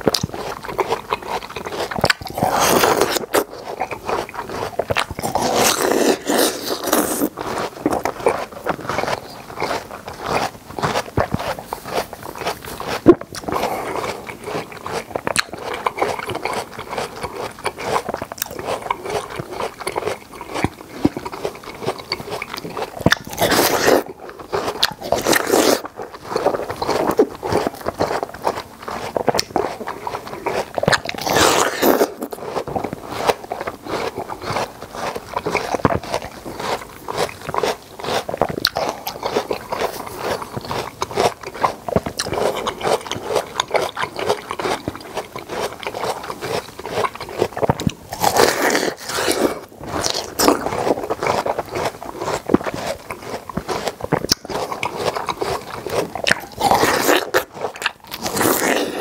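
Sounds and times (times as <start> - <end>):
crunchy watermelon chewing: 0.0 - 59.0.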